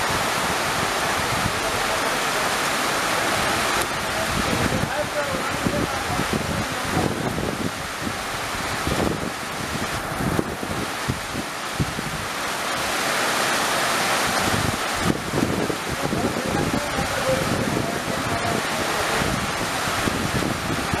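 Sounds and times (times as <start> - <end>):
wind buffeting microphone: 0.0 - 2.0, 2.9 - 21.0
heavy rain pouring: 0.0 - 21.0.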